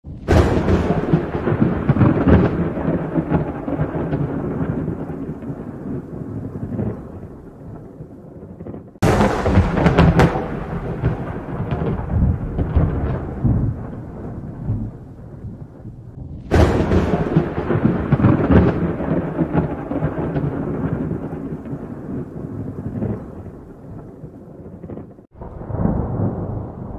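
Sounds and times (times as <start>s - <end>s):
thunder crack and rumble: 0.0s - 26.9s.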